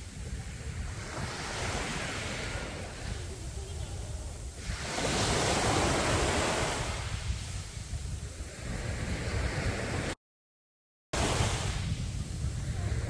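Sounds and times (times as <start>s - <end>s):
sea waves breaking on beach: 0.0s - 10.2s, 11.2s - 13.0s
wind on microphone: 0.0s - 10.2s, 11.2s - 13.0s.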